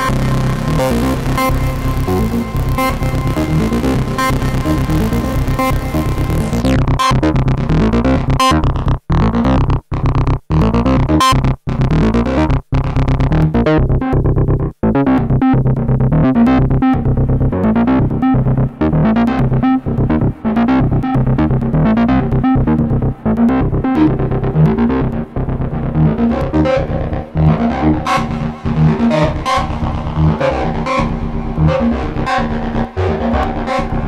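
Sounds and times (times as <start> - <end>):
low synth bass note: 0.0 - 34.0
synthesizer repeating notes: 0.0 - 34.0.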